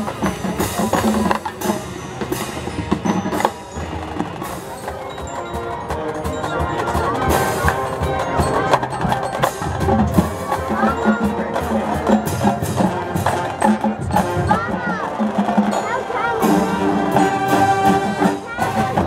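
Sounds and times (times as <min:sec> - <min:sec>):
mallet instrument notes: 0:00.0 - 0:19.0
marching band playing: 0:00.0 - 0:19.0
percussion hits: 0:00.0 - 0:19.0.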